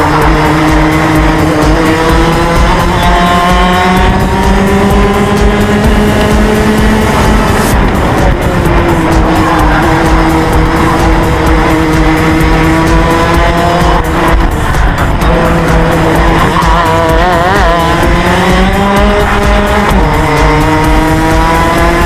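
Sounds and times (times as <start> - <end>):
kart engine at high revs: 0.0 - 22.0.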